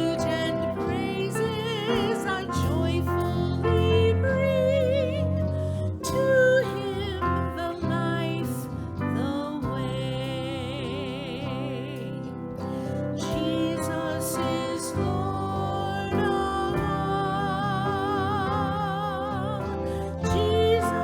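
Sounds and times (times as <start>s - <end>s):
instrumental accompaniment: 0.0s - 21.0s
person singing a hymn: 0.0s - 21.0s.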